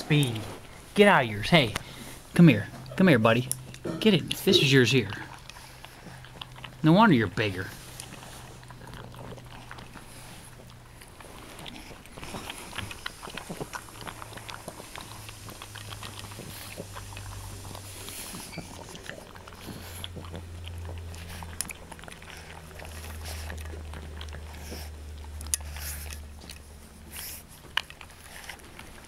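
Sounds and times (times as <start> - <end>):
puppies crunching dry kibble: 0.0 - 29.0.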